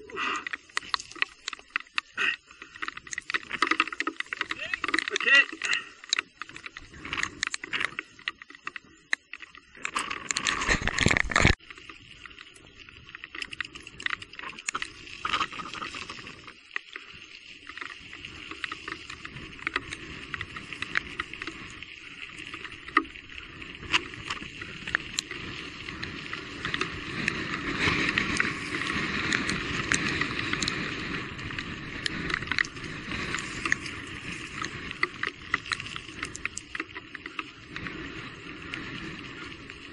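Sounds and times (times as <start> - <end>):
bike tyre noise on dirt: 0.0 - 39.9.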